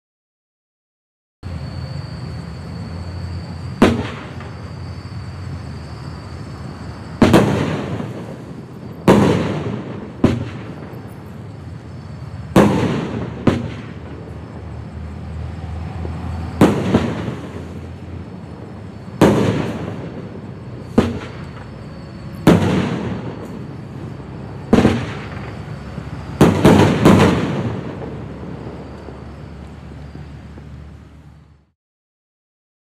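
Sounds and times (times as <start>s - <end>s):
fireworks reports: 1.5s - 30.9s.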